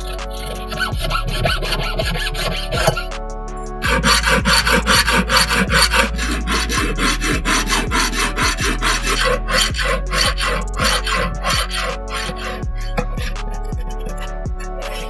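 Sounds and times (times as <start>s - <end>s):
hand file rasping on metal ring: 0.4s - 3.1s, 3.8s - 15.0s.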